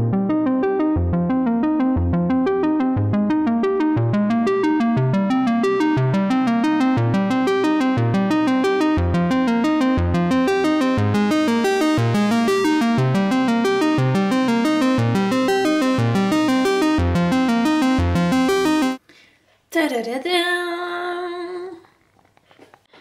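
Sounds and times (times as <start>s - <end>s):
bass note: 0.0s - 19.0s
synthesizer tune: 0.0s - 19.0s.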